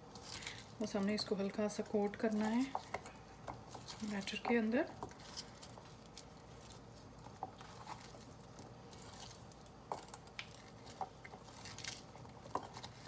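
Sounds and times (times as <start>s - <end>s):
wet squishing of batter: 0.0s - 13.0s.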